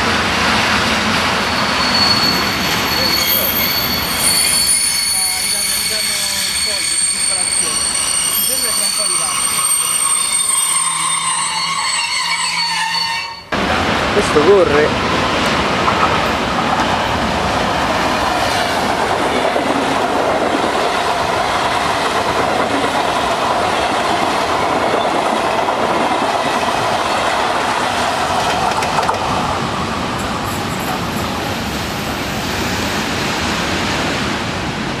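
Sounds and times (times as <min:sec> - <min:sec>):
train wheels rattling on rails: 0:00.0 - 0:35.0.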